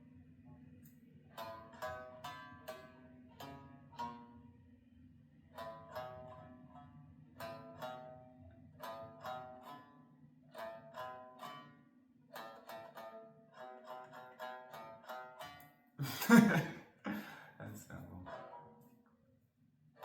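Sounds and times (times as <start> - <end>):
plucked string instrument: 0.0 - 19.2.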